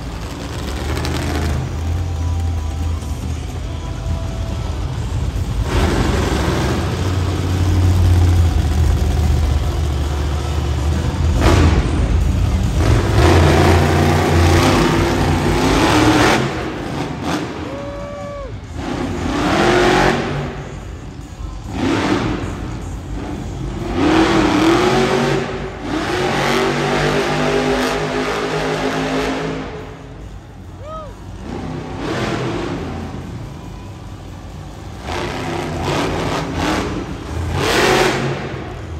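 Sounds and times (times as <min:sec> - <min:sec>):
monster truck engines revving: 0:00.0 - 0:38.9.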